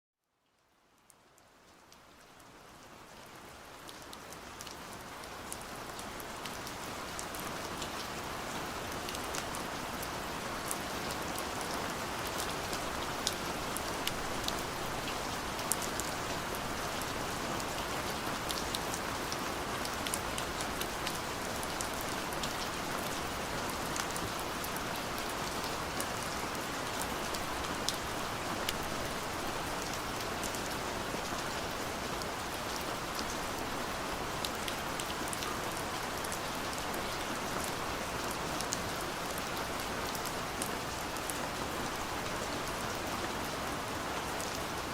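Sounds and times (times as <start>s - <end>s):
rain on hard surface: 0.2s - 44.9s.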